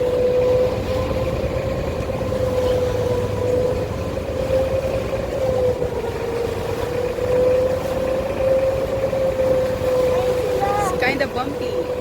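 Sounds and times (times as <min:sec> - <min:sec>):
boat engine whining: 0:00.0 - 0:12.0.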